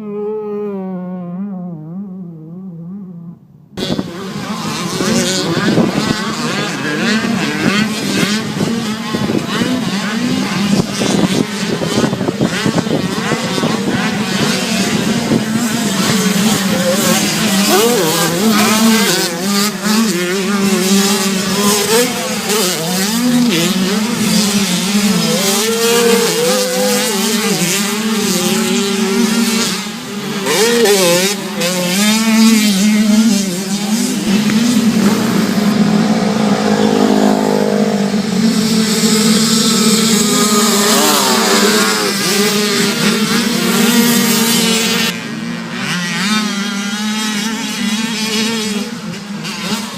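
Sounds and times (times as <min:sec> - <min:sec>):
racing engines accelerating: 0:00.0 - 0:49.9.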